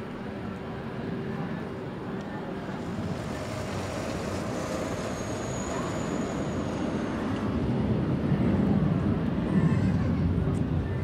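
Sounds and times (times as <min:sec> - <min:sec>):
jet engines taxiing: 0:00.0 - 0:11.0.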